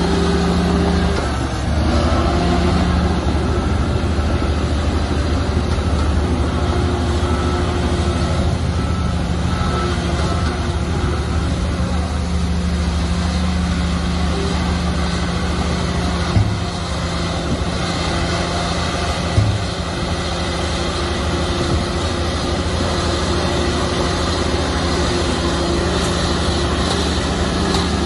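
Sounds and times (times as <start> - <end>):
bulldozer diesel engine drone: 0.0 - 28.0.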